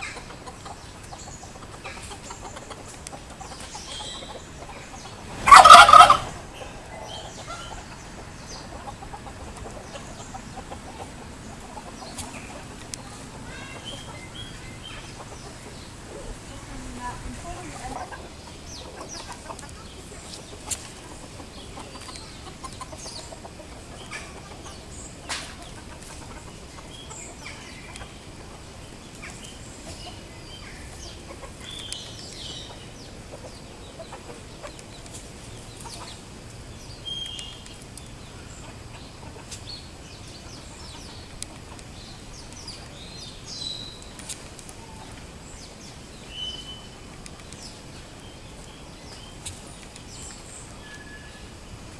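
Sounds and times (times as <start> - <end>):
fowl chirping and clucking: 0.0 - 51.9
steady background hiss: 0.0 - 51.9.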